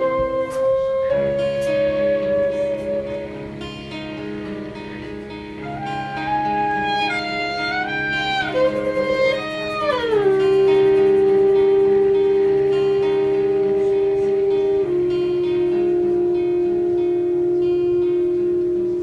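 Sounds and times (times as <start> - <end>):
bending melody line: 0.0 - 19.0
strummed guitar: 0.0 - 19.0.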